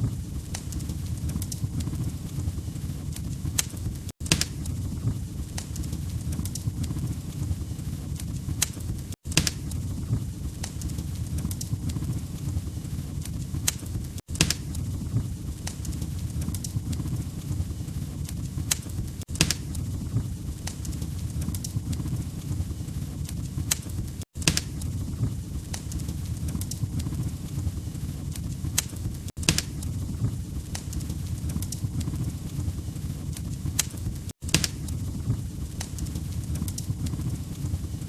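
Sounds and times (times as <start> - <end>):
log fire crackling: 0.0 - 38.0.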